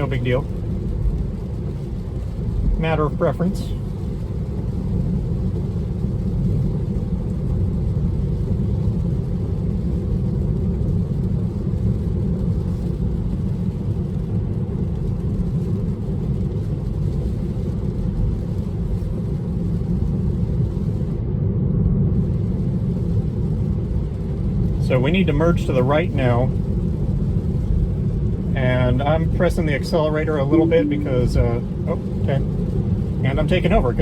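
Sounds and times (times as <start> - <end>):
road and tyre rumble in car cabin: 0.0 - 34.0.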